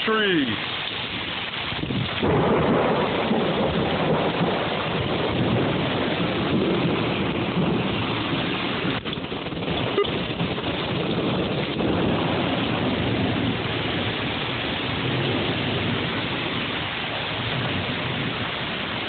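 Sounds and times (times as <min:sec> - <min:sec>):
heavy rain: 0:00.0 - 0:19.0
storm wind: 0:00.0 - 0:19.0.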